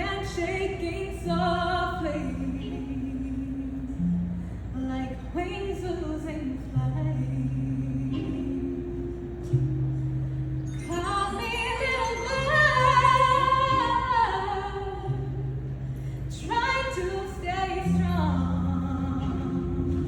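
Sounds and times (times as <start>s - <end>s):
woman singing with vibrato: 0.0s - 9.6s, 10.7s - 20.0s.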